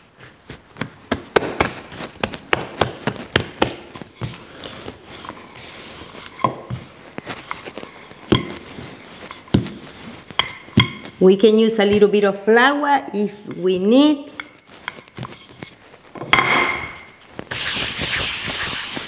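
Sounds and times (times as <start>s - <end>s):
rolling pin rolling dough: 0.0s - 12.4s, 13.4s - 19.0s.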